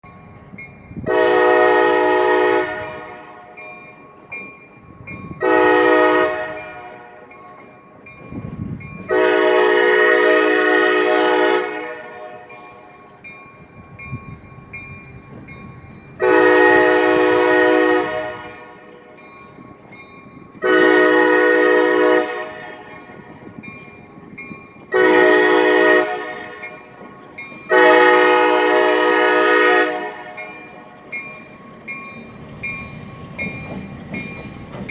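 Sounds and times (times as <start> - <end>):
multi-chime locomotive horn blasts: 0.1 - 24.2, 24.8 - 33.7.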